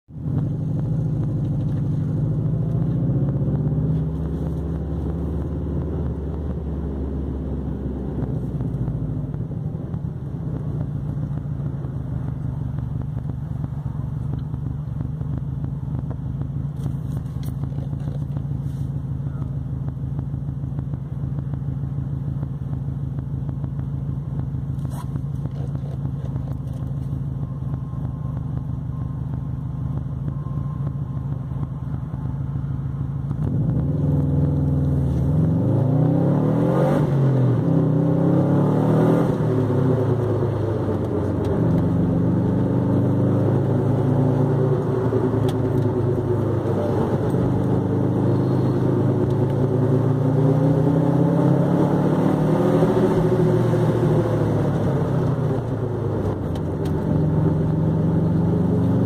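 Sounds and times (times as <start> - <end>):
car engine idling: 0.1 - 59.0.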